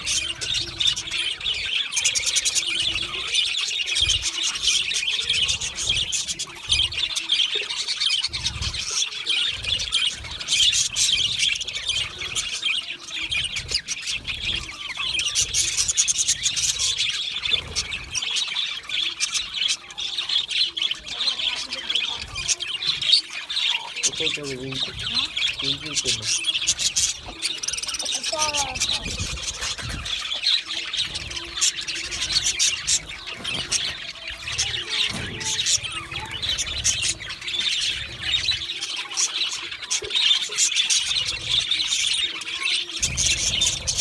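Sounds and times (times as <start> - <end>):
budgerigars chattering: 0.0 - 44.0.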